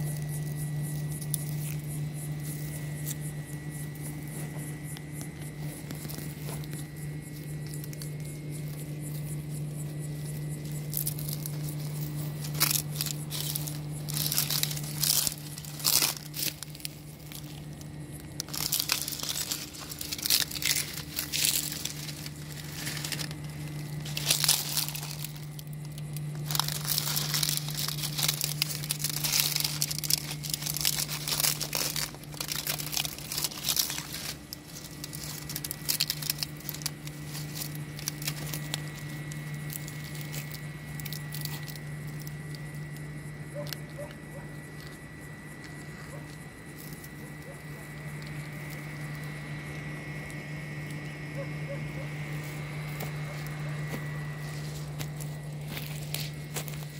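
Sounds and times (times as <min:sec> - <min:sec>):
dry leaves crackling and rustling: 0:00.0 - 0:56.9
steady low hum: 0:00.0 - 0:56.9.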